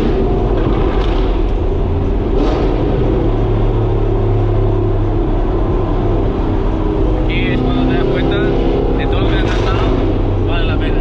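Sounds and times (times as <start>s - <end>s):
car engine while driving: 0.0s - 11.0s.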